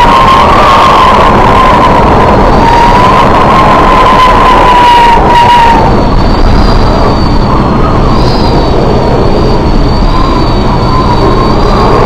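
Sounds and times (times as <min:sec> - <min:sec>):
faint wavering whistle: 0:00.0 - 0:12.0
storm wind roaring: 0:00.0 - 0:12.0.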